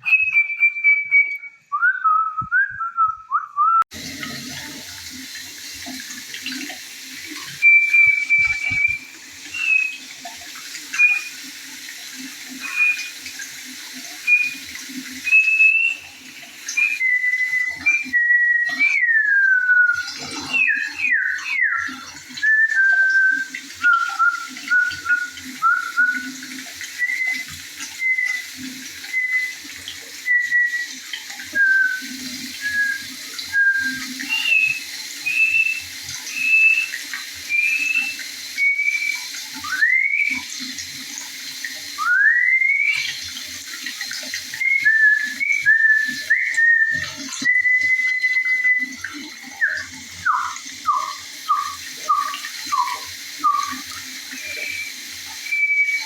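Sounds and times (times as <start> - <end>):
songbird whistling: 0.0 - 3.8, 7.4 - 10.2, 10.8 - 11.5, 12.6 - 13.2, 14.2 - 29.6, 30.2 - 40.5, 42.0 - 43.2, 44.6 - 56.0
stream gurgling: 3.6 - 56.0.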